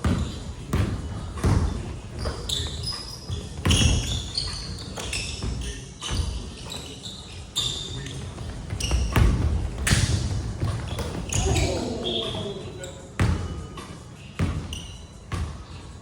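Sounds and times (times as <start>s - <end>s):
basketballs bouncing on wood floor: 0.0s - 12.5s, 13.1s - 15.8s
shoe squeaks: 0.0s - 16.0s.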